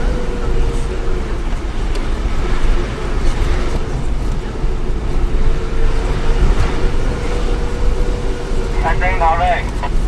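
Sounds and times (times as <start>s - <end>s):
bus engine and road rumble: 0.0s - 10.0s
steady whine: 0.0s - 10.0s.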